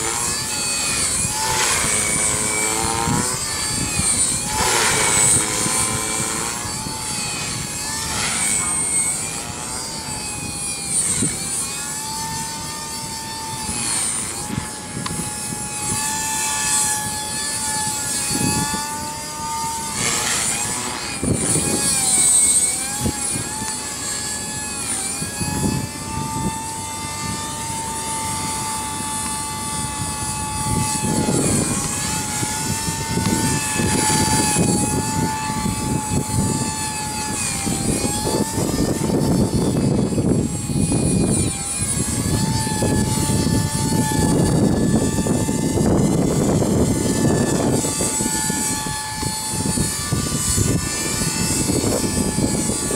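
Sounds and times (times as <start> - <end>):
rc helicopter rotor whine: 0.0 - 52.9
wind buffeting microphone: 0.0 - 52.9.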